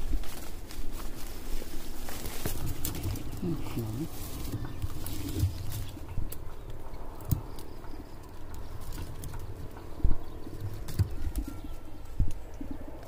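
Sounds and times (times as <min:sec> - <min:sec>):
branches rustling and snapping: 0:00.0 - 0:13.0.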